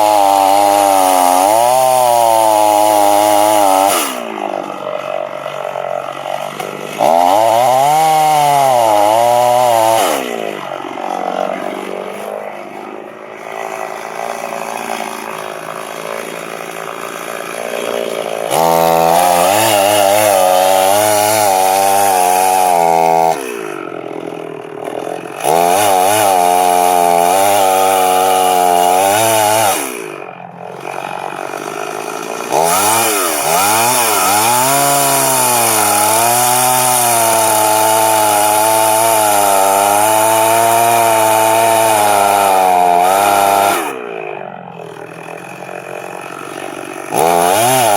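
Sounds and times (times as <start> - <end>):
chainsaw cutting wood: 0.0 - 47.9
chainsaw idling: 0.0 - 47.9.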